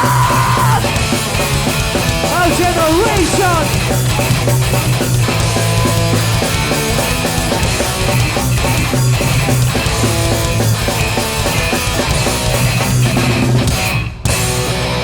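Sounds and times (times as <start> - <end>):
distorted electric guitars: 0.0 - 15.0
punk band playing loud: 0.0 - 15.0.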